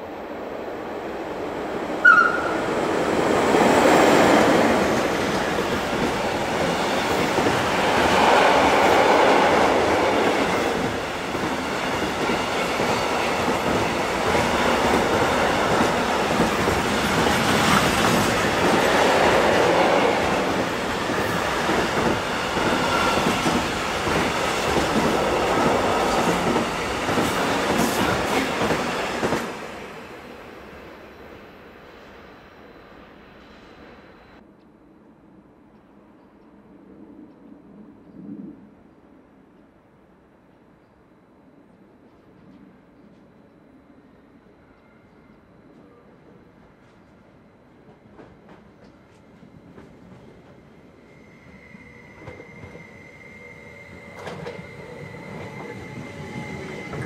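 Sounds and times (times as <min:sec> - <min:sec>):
train running past on rails: 0:00.0 - 0:34.4, 0:42.2 - 0:57.0.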